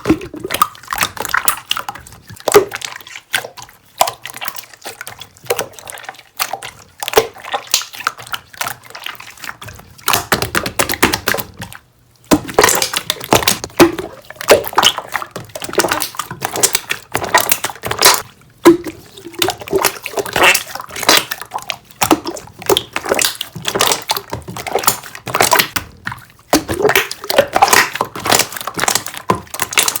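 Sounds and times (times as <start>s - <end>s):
slime squelching by hand: 0.0s - 30.0s.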